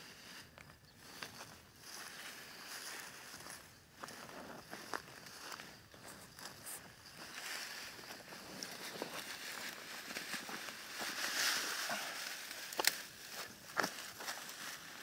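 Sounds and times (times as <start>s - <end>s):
dry straw rustling and crackling: 0.0s - 15.0s.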